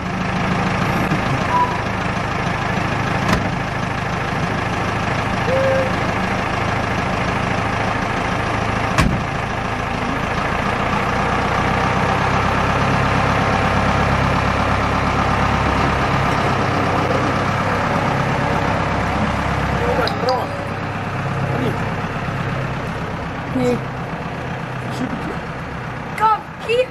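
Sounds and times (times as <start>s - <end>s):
truck engine idling: 0.0s - 26.9s.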